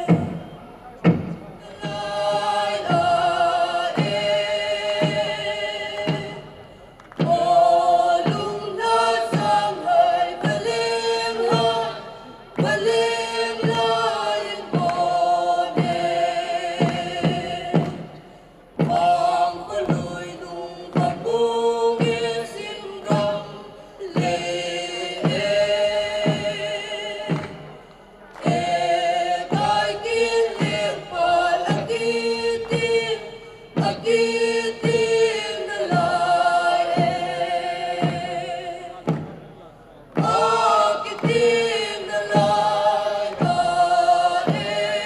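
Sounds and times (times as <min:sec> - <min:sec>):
group singing: 0:00.0 - 0:00.6, 0:01.6 - 0:39.3, 0:40.1 - 0:45.0
steady drum beat: 0:00.0 - 0:45.0.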